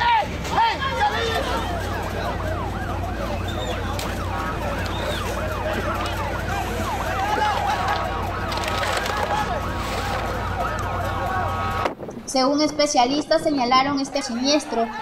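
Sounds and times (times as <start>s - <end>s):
emergency sirens yelping: 0.0s - 15.0s.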